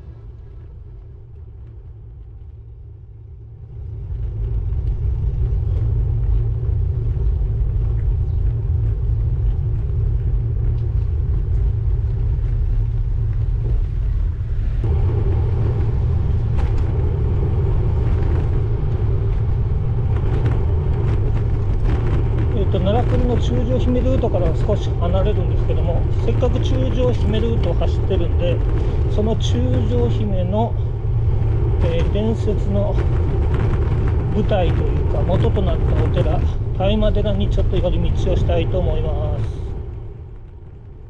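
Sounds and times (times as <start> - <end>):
wind rumbling on microphone: 0.0 - 41.0.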